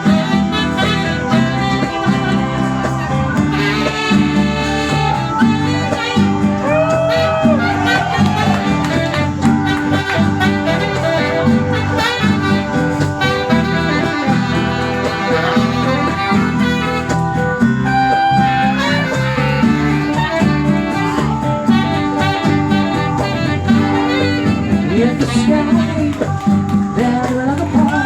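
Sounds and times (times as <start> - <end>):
held melody notes: 0.0 - 28.0
repeating bass line: 0.0 - 28.0.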